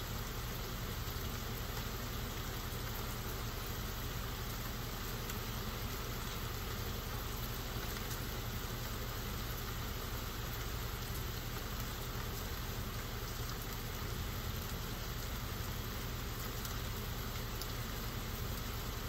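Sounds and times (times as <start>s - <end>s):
heavy rain on pavement: 0.0s - 19.0s.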